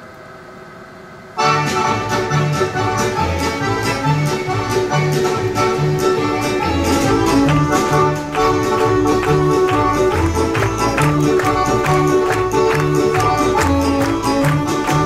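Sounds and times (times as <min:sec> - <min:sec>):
live band playing upbeat music: 0:01.4 - 0:15.0.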